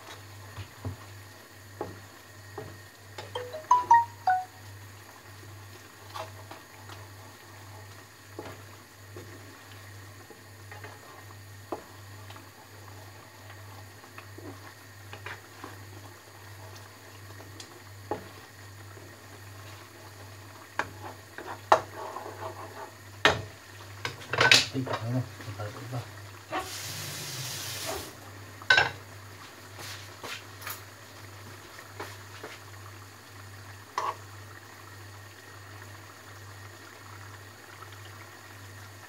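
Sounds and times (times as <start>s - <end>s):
sauce simmering and bubbling: 4.3s - 39.0s.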